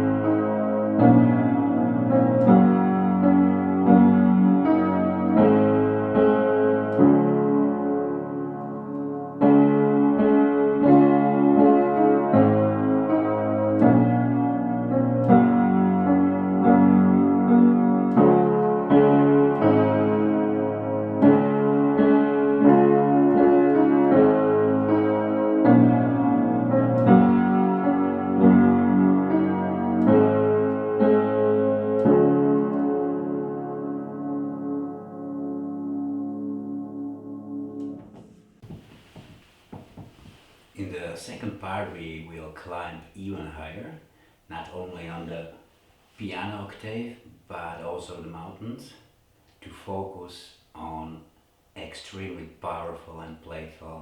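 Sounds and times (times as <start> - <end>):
solo piano music: 0.0 - 48.6.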